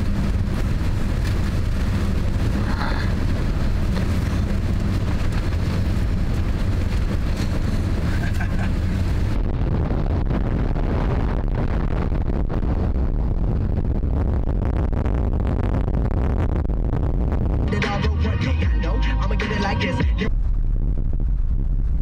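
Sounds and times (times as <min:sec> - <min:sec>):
strong wind buffeting microphone: 0:00.0 - 0:17.8, 0:20.3 - 0:22.0.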